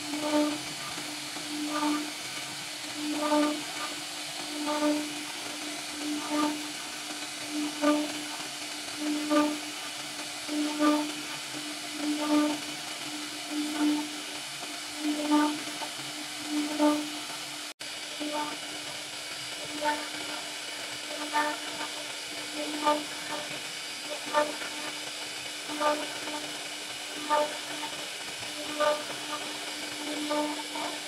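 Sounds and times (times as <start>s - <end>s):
pitched hum: 0.0s - 17.4s, 18.0s - 19.0s, 19.6s - 31.0s
router spindle cutting wood: 0.0s - 17.4s, 18.2s - 25.0s, 25.6s - 31.0s.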